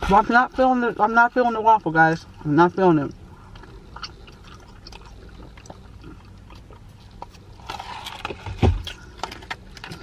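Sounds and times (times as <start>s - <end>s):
person chewing food: 0.9s - 10.0s.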